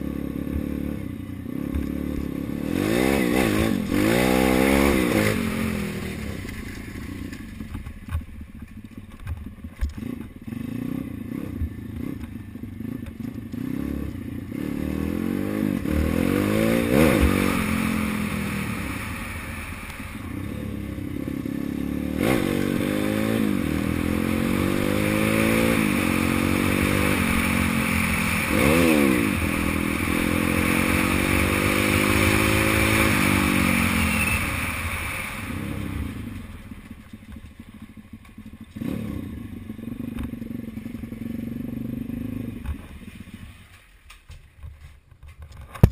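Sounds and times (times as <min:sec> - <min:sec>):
dirt bike engine revving: 0:00.0 - 0:07.4, 0:09.9 - 0:36.4, 0:38.4 - 0:43.4.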